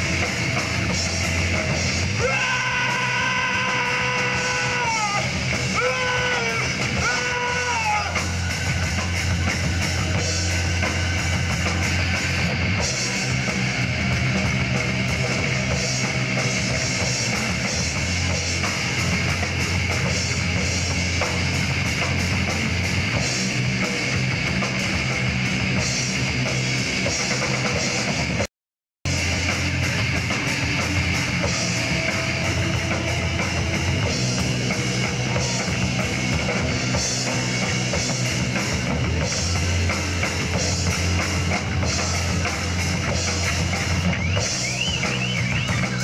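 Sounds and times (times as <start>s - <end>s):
live rock band playing: 0.0s - 28.5s, 29.1s - 46.0s.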